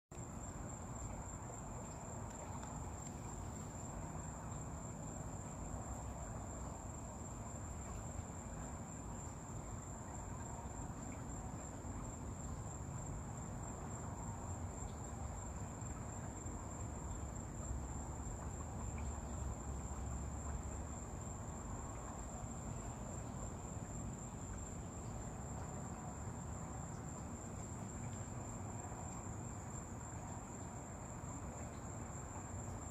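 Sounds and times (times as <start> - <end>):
crickets trilling: 0.1 - 32.9.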